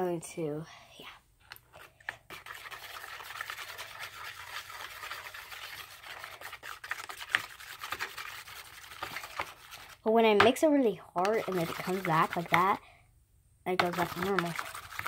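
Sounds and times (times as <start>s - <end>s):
stick stirring foamy mixture: 1.5s - 10.6s, 11.2s - 12.8s, 13.7s - 15.0s.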